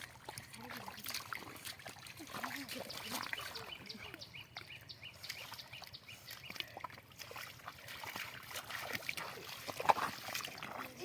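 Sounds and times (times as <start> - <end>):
shallow water splashing: 0.0 - 11.0.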